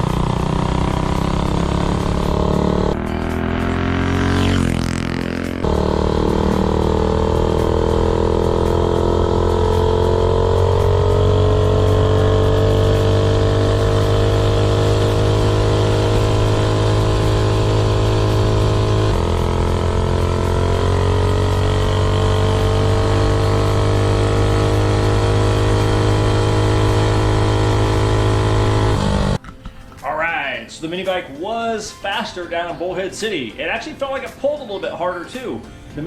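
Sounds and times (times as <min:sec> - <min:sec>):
minibike engine at full throttle: 0:00.0 - 0:29.4.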